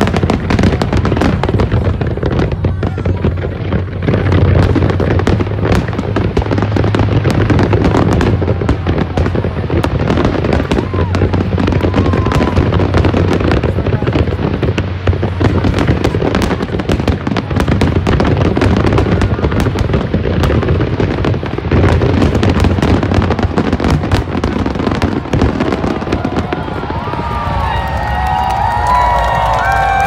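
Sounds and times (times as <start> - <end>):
fireworks bangs and cracks: 0.0 - 30.0.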